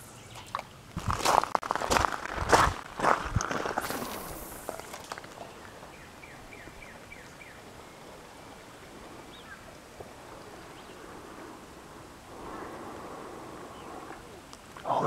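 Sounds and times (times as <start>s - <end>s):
faint background hiss: 2.5s - 15.0s.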